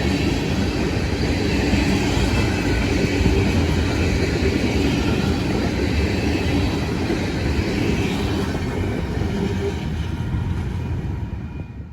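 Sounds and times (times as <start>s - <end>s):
freight train rumbling on track: 0.0s - 11.9s.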